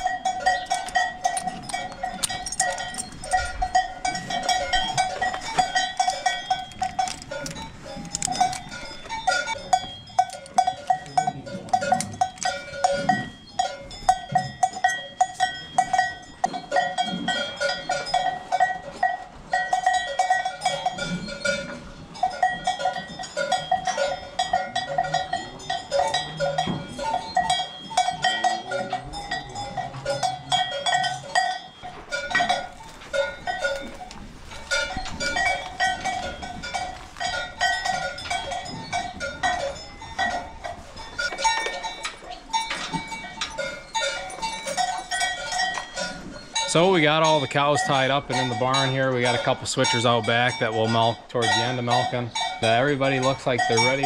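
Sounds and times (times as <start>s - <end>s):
cows calling: 0.0s - 54.0s
metal chains clinking on pipes: 0.0s - 54.0s.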